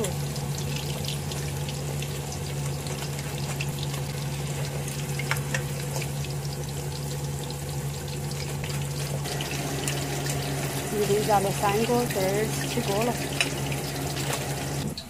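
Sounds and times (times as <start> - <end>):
low hum: 0.0 - 15.0
meat deep-frying in oil: 0.0 - 15.0.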